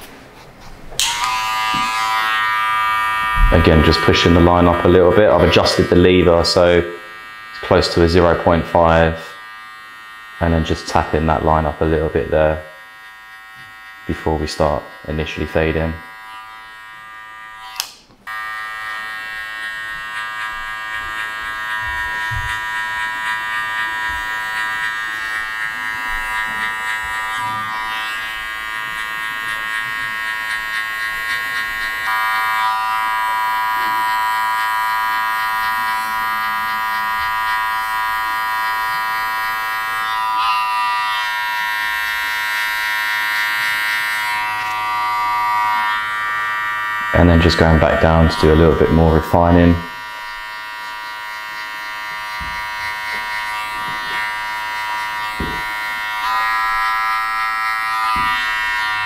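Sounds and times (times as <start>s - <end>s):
electric hair clippers buzzing: 0.8s - 59.0s.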